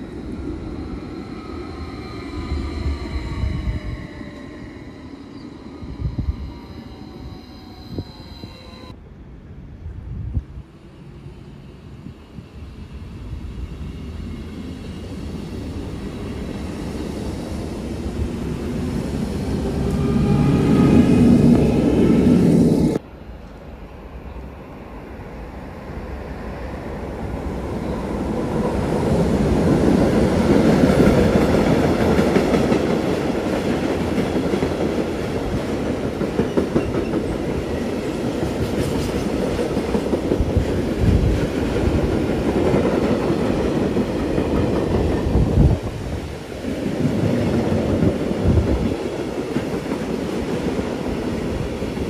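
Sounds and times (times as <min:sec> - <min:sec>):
electric locomotive approaching: 0:00.0 - 0:52.0.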